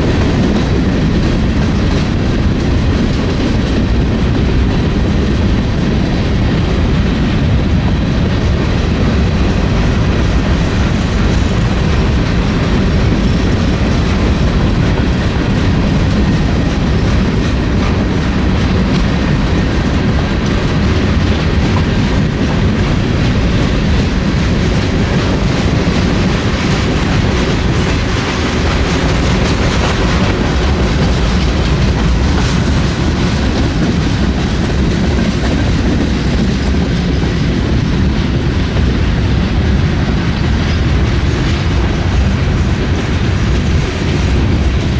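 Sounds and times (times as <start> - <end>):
freight train rumble: 0.0 - 44.9
wheels clattering on rails: 0.0 - 44.9.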